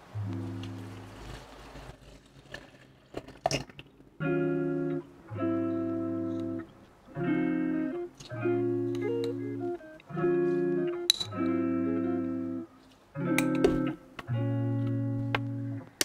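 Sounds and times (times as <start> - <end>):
lofi jazz guitar chords: 0.0 - 1.4, 4.2 - 16.0.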